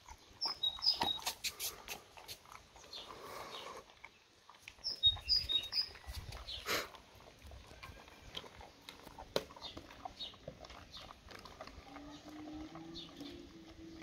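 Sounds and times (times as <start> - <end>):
dogs chewing and licking: 0.0 - 14.0.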